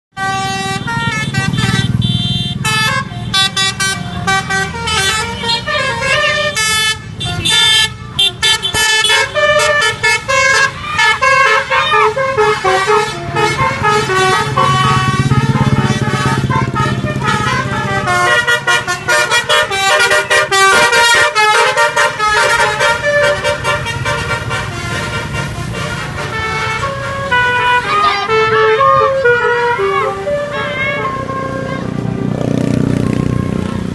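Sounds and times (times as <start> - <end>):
musical air horn playing tune: 0.2 - 32.4
bus engine rumble: 0.2 - 33.9.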